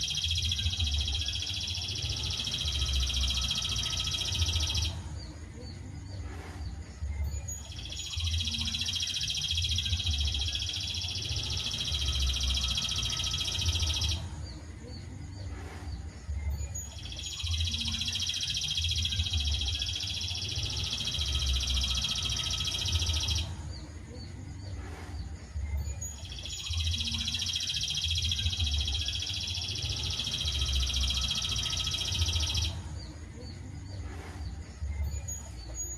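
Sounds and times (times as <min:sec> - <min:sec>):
high trilling bird song: 0:00.0 - 0:35.9.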